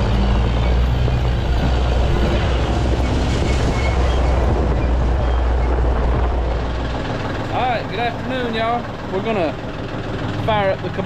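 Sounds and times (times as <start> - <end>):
vehicle engine droning and rattling: 0.0 - 11.0.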